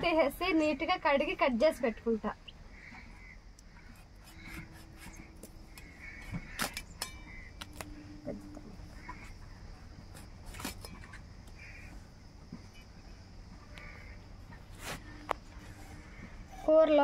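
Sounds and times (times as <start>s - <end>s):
birds calling faintly: 0.0s - 17.0s
faint steady hum: 0.0s - 17.0s.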